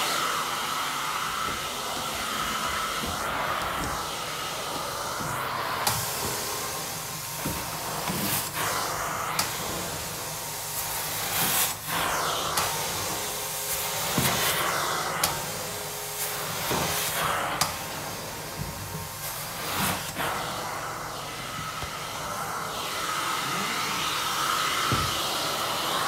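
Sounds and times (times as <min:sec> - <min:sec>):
steam-cleaner wand suction hissing: 0:00.0 - 0:26.0.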